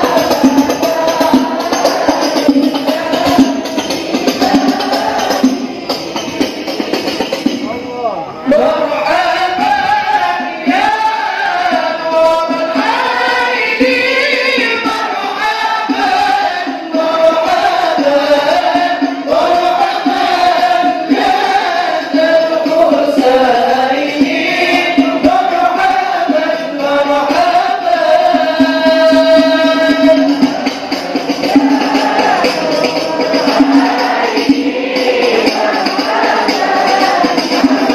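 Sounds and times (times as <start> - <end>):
choir of many voices: 0.0 - 37.9.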